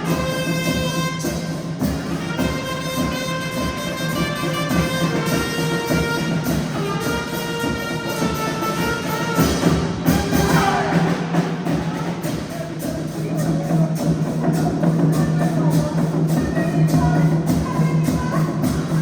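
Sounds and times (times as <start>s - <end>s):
brass band playing: 0.0s - 19.0s
steady drum beat: 0.0s - 19.0s.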